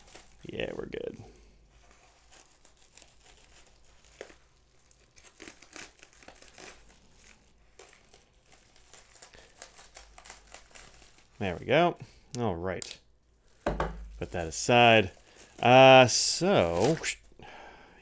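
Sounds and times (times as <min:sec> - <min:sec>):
plastic mailer crinkling: 0:00.0 - 0:11.8, 0:13.4 - 0:17.3.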